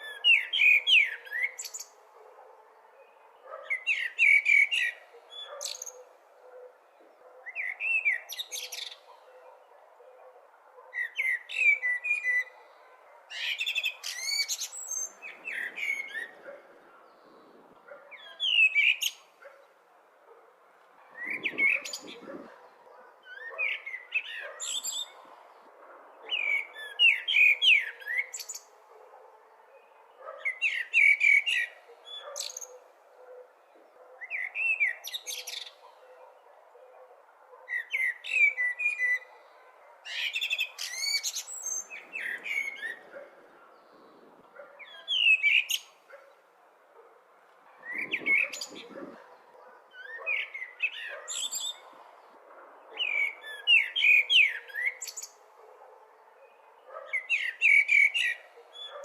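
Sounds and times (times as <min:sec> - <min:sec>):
blackbird singing: 0:00.0 - 0:19.7, 0:21.1 - 0:46.4, 0:47.8 - 0:52.0, 0:52.8 - 0:55.4, 0:56.4 - 0:59.0
faint background noise: 0:00.0 - 0:59.0.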